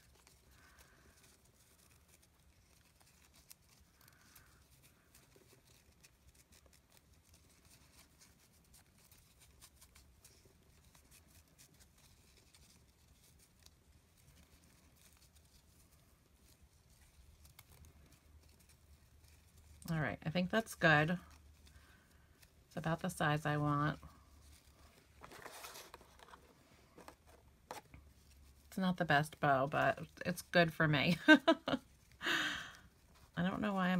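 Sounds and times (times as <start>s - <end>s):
ribbon rustling: 0.0s - 33.9s.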